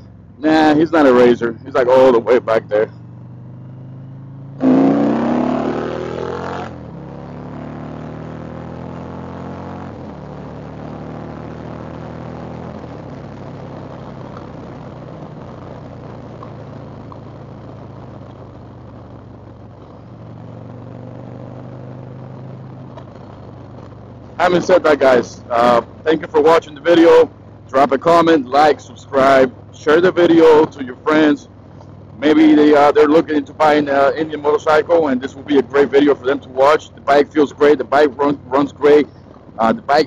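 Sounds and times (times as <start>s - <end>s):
motorcycle engine revving: 0.0s - 40.0s
wind and road noise: 0.0s - 40.0s.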